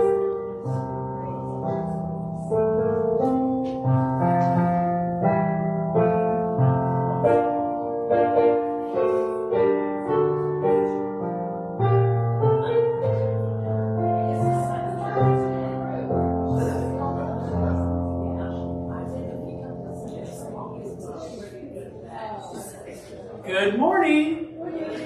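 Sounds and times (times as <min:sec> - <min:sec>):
piano music: 0:00.0 - 0:21.7.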